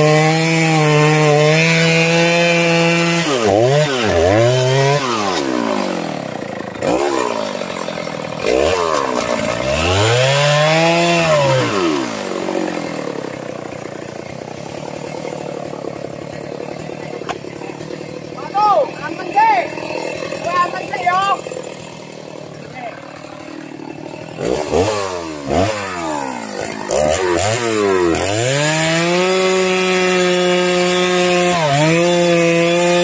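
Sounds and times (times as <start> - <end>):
chainsaw cutting and revving: 0.0 - 33.0.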